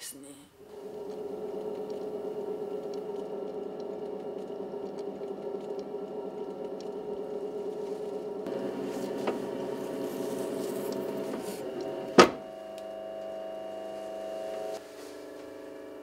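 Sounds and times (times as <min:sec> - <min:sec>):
potter's wheel motor humming: 0:00.6 - 0:16.0.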